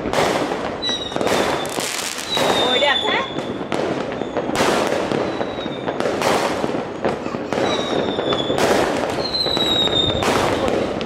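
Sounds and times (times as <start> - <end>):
fireworks bangs: 0.0 - 11.0
fireworks crackling: 0.0 - 11.0
fireworks whistling in flight: 0.0 - 11.0.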